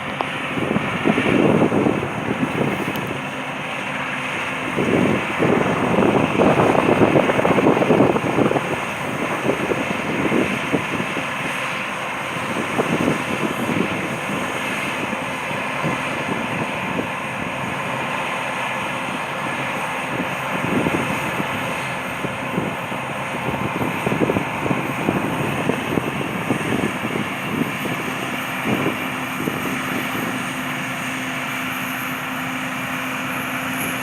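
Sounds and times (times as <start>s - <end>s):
combine harvester running: 0.0s - 34.0s
wind buffeting microphone: 0.0s - 34.0s.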